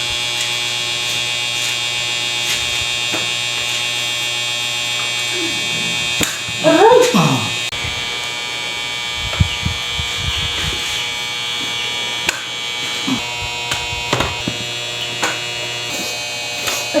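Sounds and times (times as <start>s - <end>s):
small motor buzzing hum: 0.0s - 17.0s.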